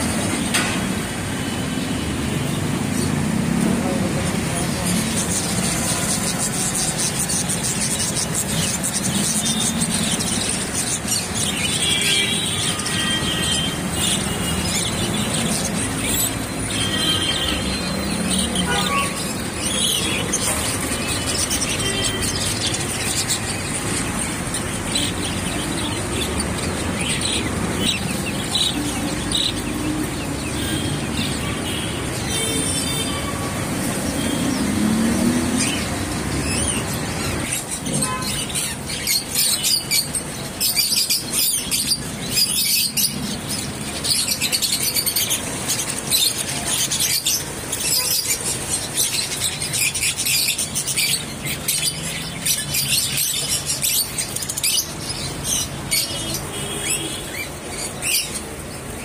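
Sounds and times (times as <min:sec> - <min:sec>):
budgerigars chirping and chattering: 0:01.6 - 0:59.0.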